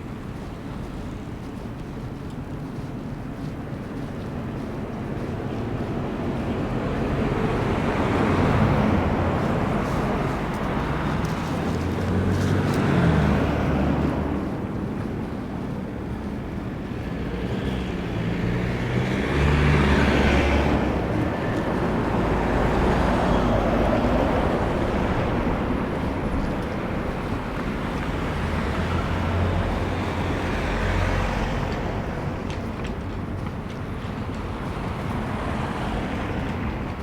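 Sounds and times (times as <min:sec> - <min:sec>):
gusty wind buffeting microphones: 0:00.0 - 0:37.0
passing road traffic: 0:00.0 - 0:37.0.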